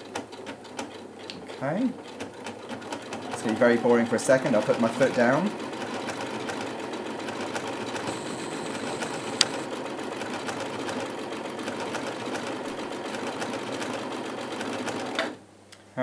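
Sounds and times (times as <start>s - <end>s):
sewing machine stitching: 0.0s - 15.4s.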